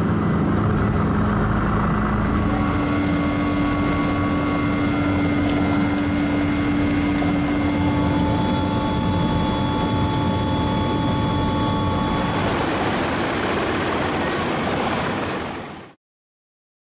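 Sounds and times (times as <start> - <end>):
helicopter turbine and rotor: 0.0 - 16.0.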